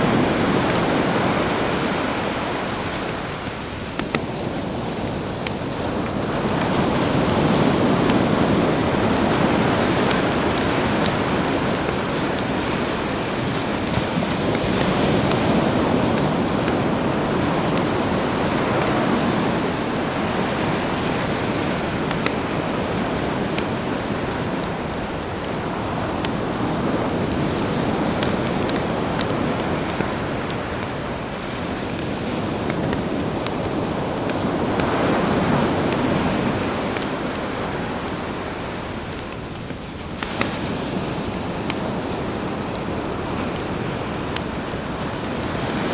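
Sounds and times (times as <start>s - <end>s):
campfire crackling: 0.0s - 45.9s
sea waves washing ashore: 0.0s - 45.9s.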